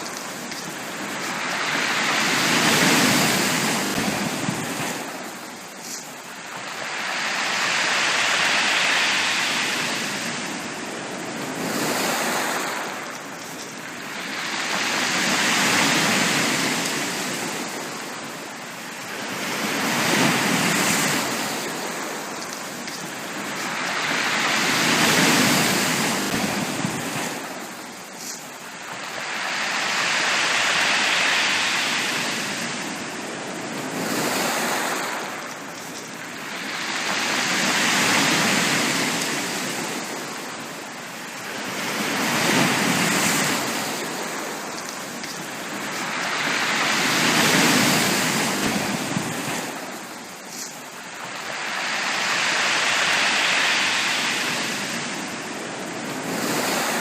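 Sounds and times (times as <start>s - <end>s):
waves washing onto beach: 0.0s - 57.0s.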